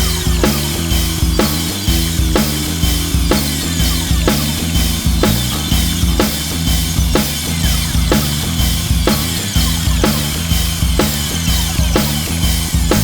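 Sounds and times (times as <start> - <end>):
repeating bass line: 0.0 - 13.0
steady drum beat: 0.0 - 13.0.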